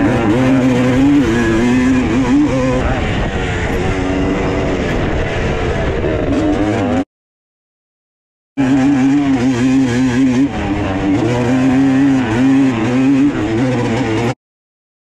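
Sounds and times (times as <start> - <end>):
loud buzzing motor: 0.0 - 7.0, 8.6 - 14.4.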